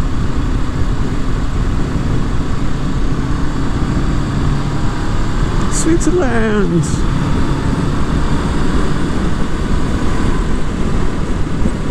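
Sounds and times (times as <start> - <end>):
motorcycle engine running: 0.0 - 11.9
wind rush on microphone: 0.0 - 11.9.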